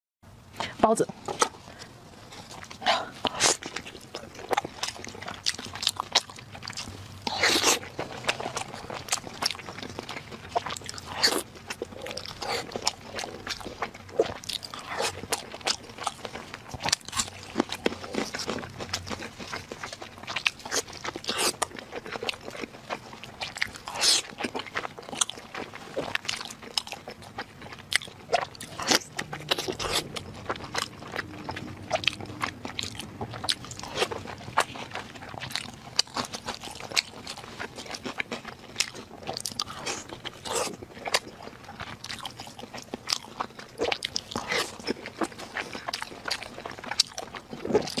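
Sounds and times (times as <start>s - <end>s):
person chewing crunchy food: 1.2s - 48.0s.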